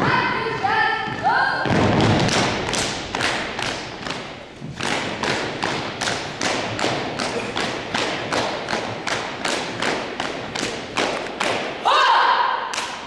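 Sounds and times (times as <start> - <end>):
drill team stomping and slapping: 0.0 - 11.8.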